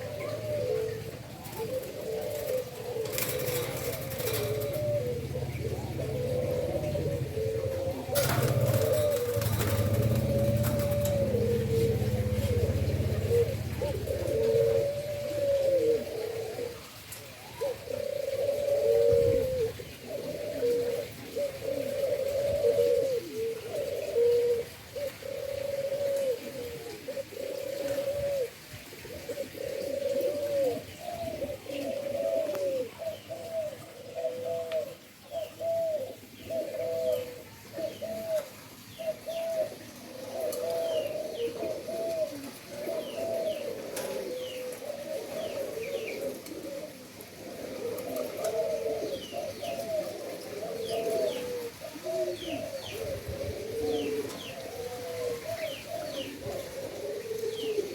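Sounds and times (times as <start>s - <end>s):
small birds chirping: 0.0s - 18.7s, 29.2s - 57.9s
doves cooing: 0.0s - 57.9s.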